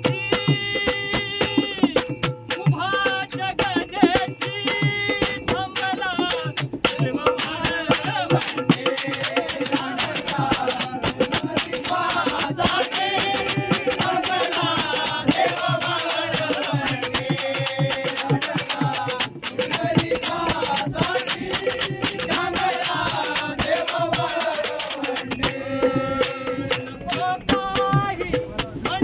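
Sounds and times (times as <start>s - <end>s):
hand drum: 0.0s - 29.0s
jingling percussion: 0.0s - 29.0s.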